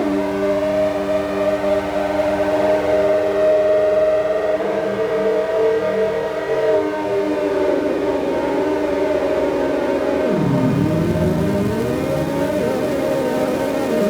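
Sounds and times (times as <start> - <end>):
droning synthesizer chord: 0.0 - 14.0.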